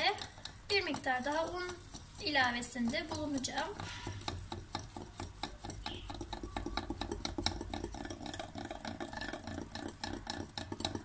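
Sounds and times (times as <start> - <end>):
whisk clicking against glass bowl: 0.0 - 11.0.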